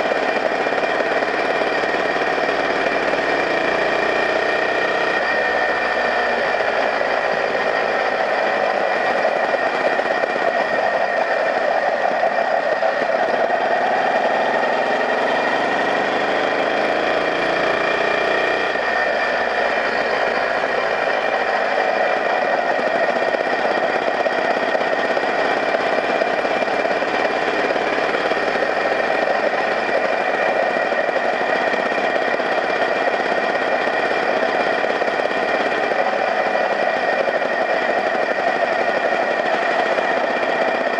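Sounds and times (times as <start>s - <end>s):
small motorbike engine running: 0.0s - 40.9s.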